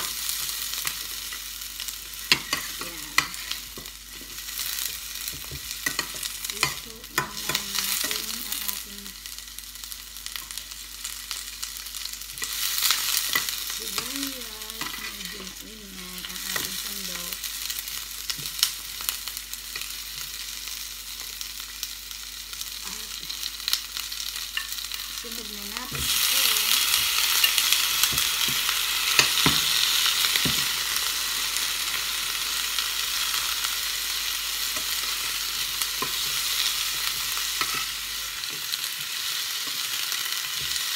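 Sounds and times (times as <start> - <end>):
food sizzling in oil: 0.0 - 40.9.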